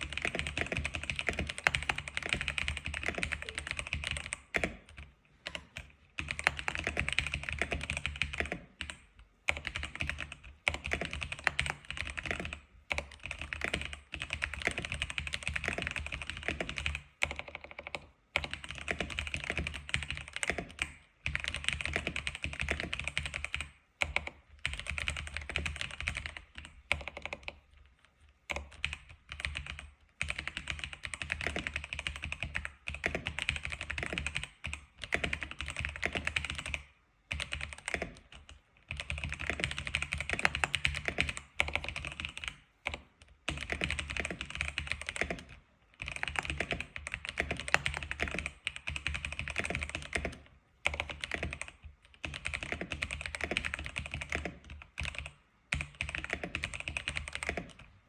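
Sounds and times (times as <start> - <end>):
fast keyboard typing: 0.0 - 27.7, 28.5 - 58.0.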